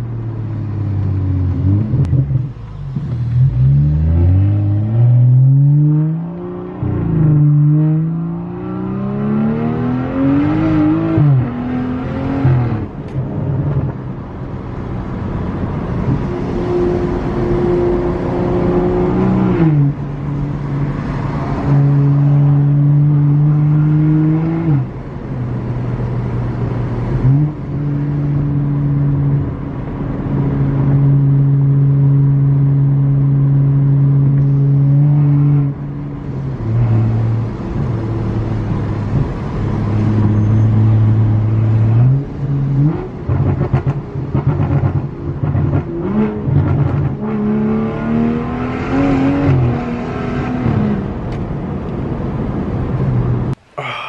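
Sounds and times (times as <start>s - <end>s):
car engine revving and misfiring: 0.0s - 53.6s.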